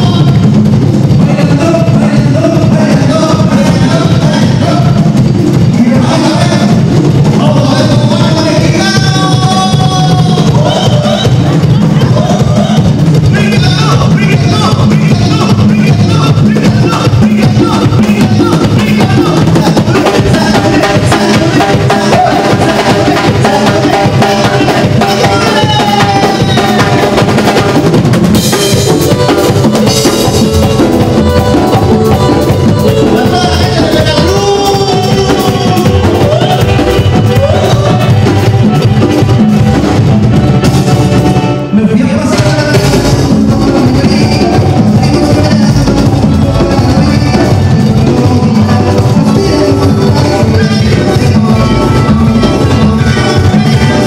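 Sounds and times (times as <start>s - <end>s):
drum kit beat: 0.0s - 54.0s
loud instrumental music: 0.0s - 54.0s.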